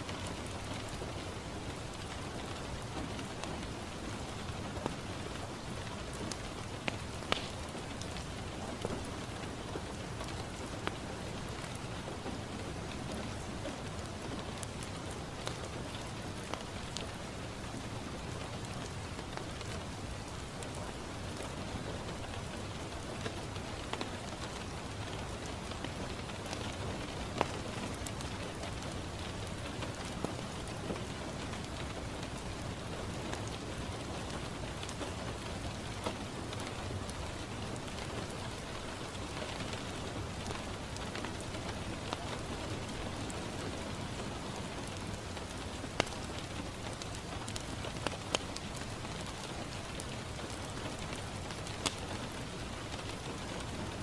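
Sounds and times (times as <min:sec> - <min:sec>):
rain on a window pane: 0:00.0 - 0:54.0
wood fire crackling and popping: 0:00.0 - 0:54.0.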